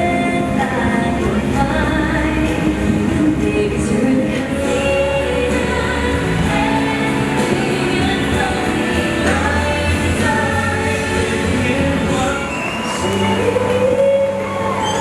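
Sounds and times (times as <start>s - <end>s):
person singing a song: 0.0s - 15.0s.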